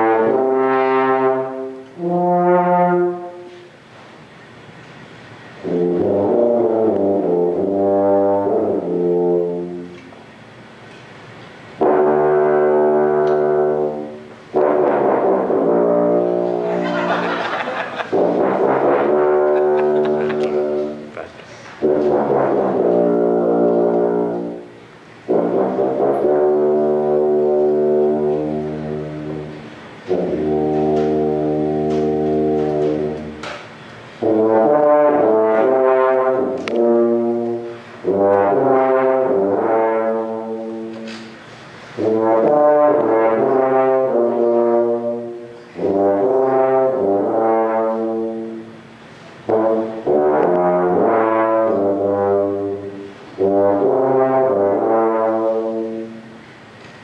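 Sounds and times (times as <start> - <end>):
tuba playing: 0.0 - 3.9, 5.5 - 10.6, 11.6 - 56.6.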